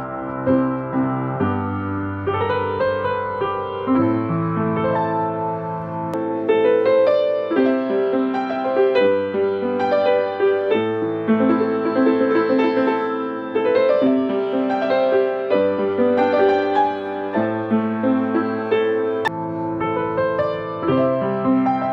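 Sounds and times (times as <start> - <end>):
piano chords and melody: 0.0 - 21.9.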